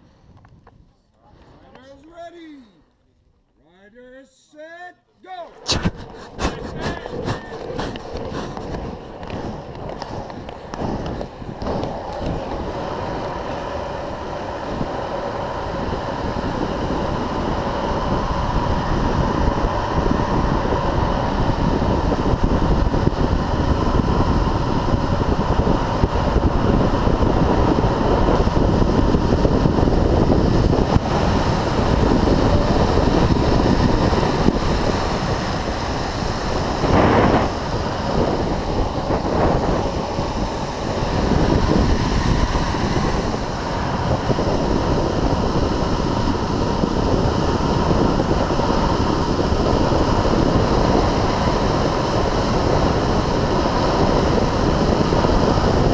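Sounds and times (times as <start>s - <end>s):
wind rushing over microphone: 5.3s - 55.9s
longboard wheels rolling on asphalt: 5.8s - 55.9s.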